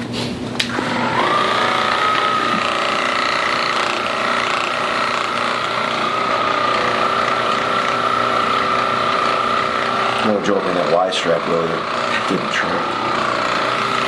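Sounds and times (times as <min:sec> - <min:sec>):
electric massager buzzing: 0:00.5 - 0:14.0.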